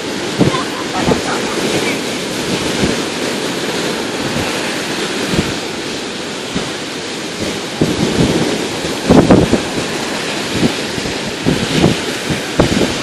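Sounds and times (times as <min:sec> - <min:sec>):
surf breaking on a beach: 0:00.0 - 0:13.0
wind buffeting the microphone: 0:00.0 - 0:13.0.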